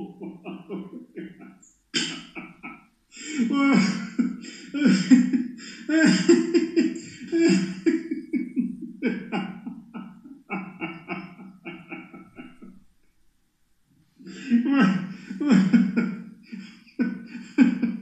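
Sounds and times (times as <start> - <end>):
man laughing hard: 0.0 - 12.7, 14.2 - 18.0.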